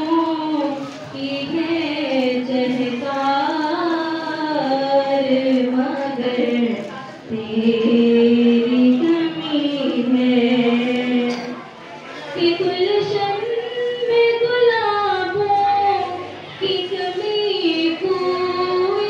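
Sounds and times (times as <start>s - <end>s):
voices singing a devotional chant: 0.0s - 19.0s.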